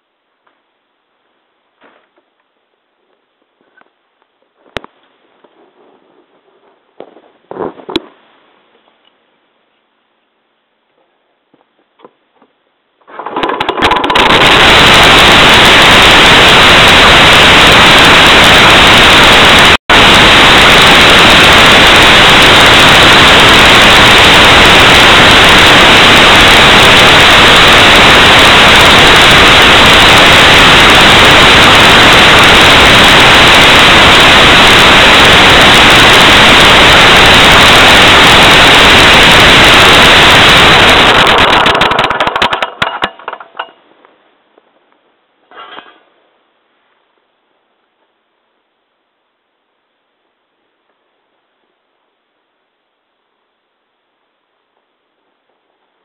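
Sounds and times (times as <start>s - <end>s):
loud static hiss: 0.0s - 56.0s.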